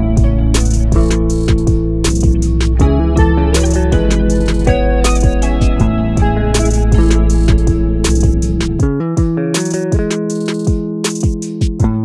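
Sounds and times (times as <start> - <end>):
guitar over drums and bass: 0.0 - 12.0.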